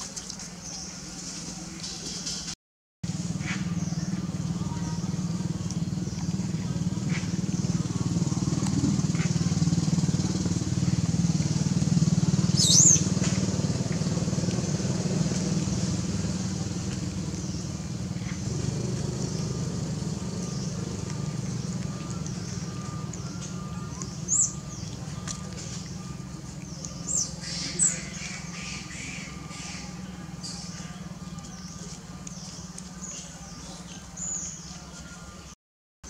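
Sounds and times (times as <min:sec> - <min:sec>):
low motor drone: 0:03.1 - 0:34.7.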